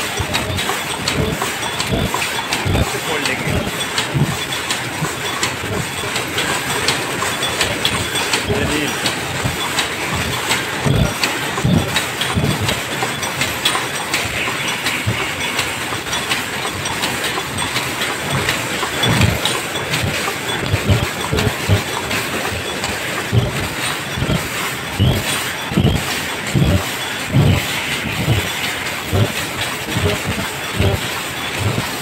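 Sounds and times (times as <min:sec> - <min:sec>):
machines clattering rapidly: 0:00.0 - 0:32.0.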